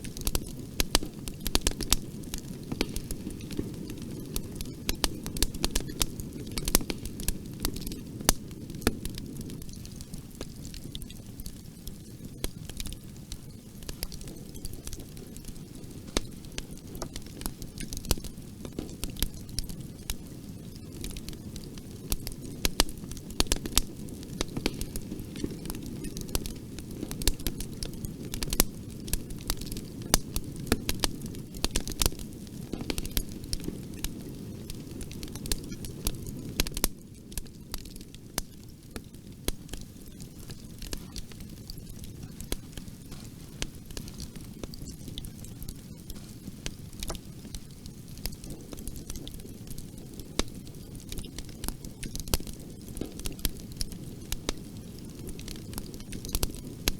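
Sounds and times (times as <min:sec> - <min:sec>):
fire crackles and pops: 0:00.0 - 0:56.9
rush of flames: 0:00.0 - 0:56.9.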